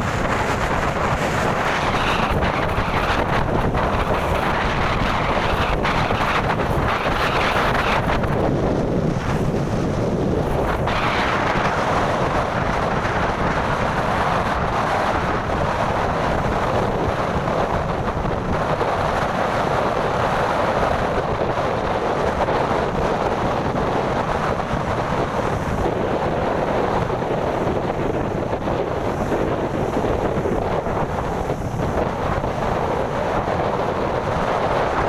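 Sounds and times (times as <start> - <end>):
waves rushing: 0.0 - 35.0
wind blowing across microphone: 0.0 - 35.0.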